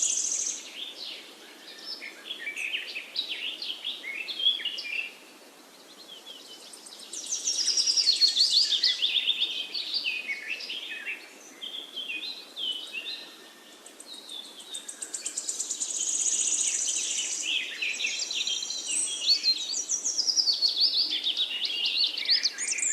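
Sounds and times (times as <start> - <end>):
small birds chirping and trilling: 0.0 - 22.9.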